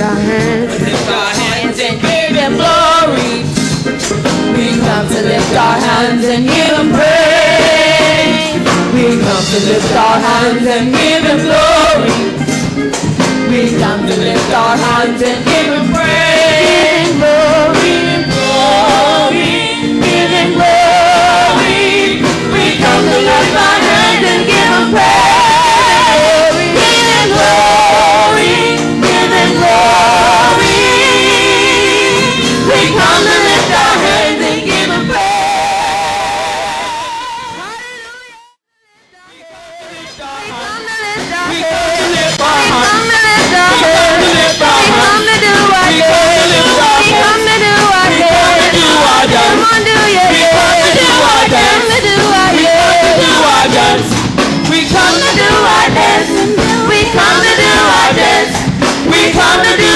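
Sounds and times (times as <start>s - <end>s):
choir singing gospel: 0.0s - 38.2s, 39.1s - 59.9s
instrumental accompaniment: 0.0s - 59.9s.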